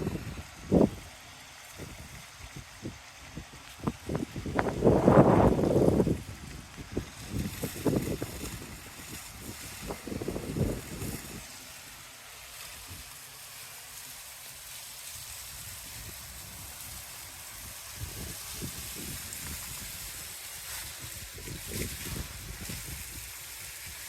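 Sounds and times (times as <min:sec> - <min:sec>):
water spraying from hose: 0:00.0 - 0:24.0.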